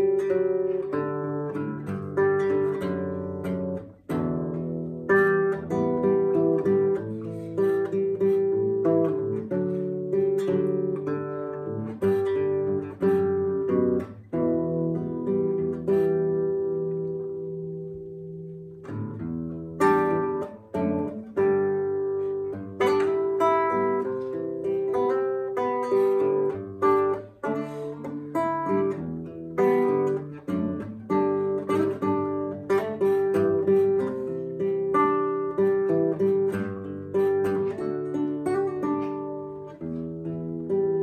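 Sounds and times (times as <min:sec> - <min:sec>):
classical guitar fingerstyle: 0:00.0 - 0:41.0.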